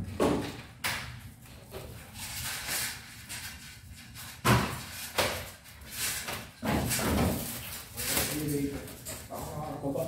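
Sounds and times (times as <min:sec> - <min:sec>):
plastic wrap rustling: 0:01.8 - 0:10.0.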